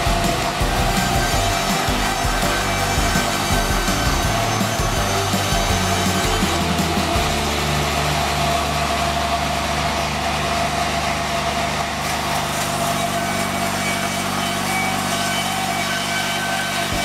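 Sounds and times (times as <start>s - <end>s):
band saw blade running: 0.0s - 17.0s
sawmill engine droning: 0.0s - 17.0s.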